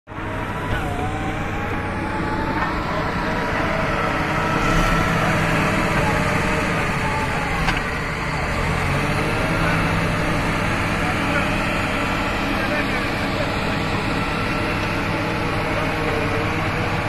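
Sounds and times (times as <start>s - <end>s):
bulldozer diesel engine: 0.1s - 17.0s
whining tones: 0.1s - 17.0s.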